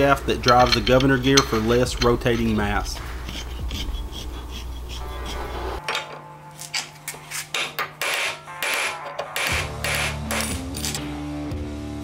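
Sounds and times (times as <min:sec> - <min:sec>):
metal clinking and scraping: 0:00.0 - 0:11.1.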